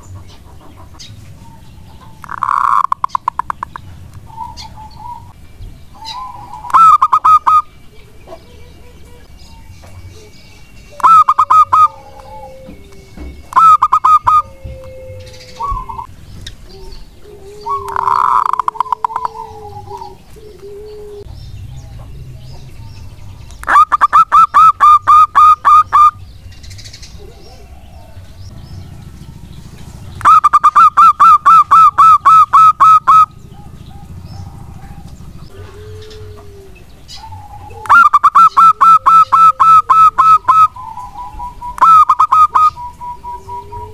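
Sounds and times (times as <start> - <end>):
dove rapid staccato calls: 0.0 - 10.0, 10.9 - 22.8, 23.4 - 36.2, 37.0 - 43.9
soft gliding coos: 6.0 - 26.2, 27.0 - 43.9.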